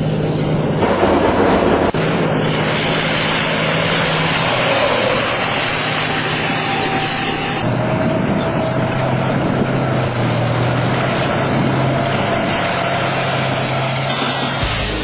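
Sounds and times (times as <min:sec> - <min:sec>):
tank diesel engine drone: 0:00.0 - 0:15.0.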